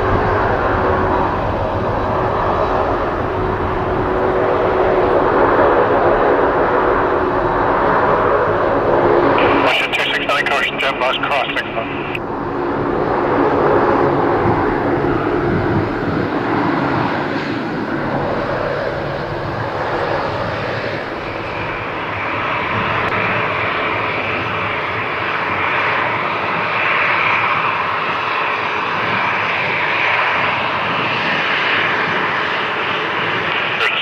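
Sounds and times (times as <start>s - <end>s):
jet engines roaring and hissing: 0.0s - 34.0s.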